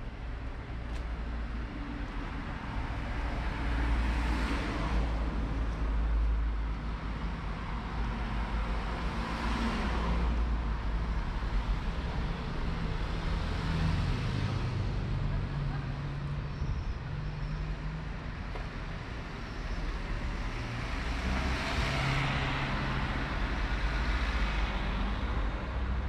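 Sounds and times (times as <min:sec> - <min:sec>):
low traffic rumble: 0:00.0 - 0:26.0
cars passing close by: 0:01.4 - 0:26.0.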